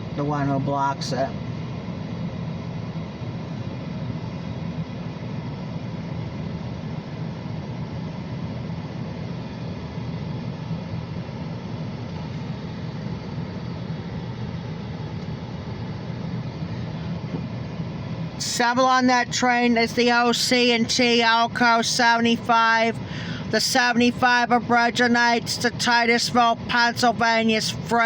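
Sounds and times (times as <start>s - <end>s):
diesel locomotive engine droning: 0.0s - 28.0s.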